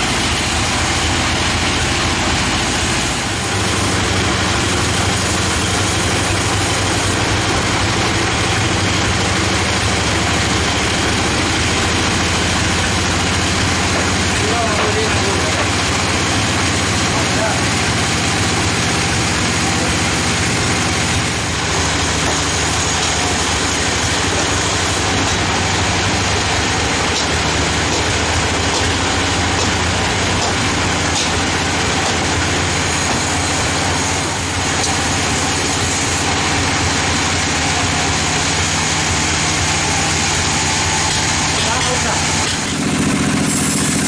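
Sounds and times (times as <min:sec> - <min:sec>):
band sawmill machinery running: 0:00.0 - 0:44.0.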